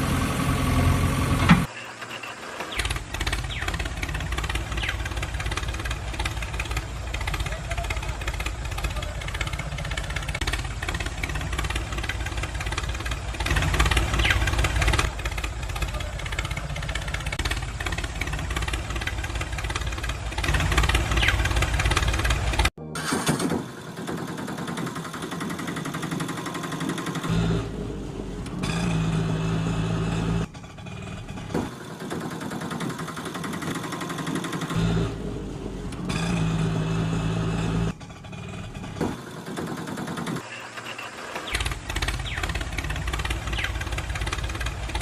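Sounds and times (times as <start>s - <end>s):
engine sound effect: 0.0s - 45.0s.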